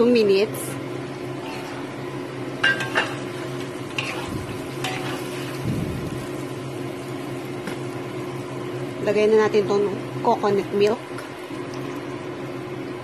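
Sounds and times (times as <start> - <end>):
sauce sizzling: 0.0 - 13.0.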